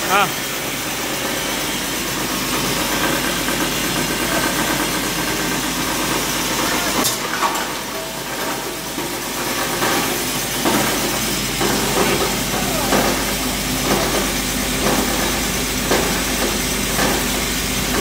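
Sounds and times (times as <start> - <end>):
wire granulator running: 0.0 - 18.0.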